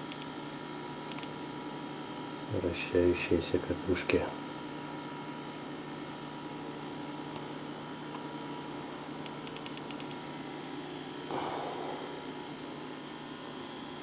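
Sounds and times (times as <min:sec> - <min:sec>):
video recorder hum with hiss: 0:00.0 - 0:14.0.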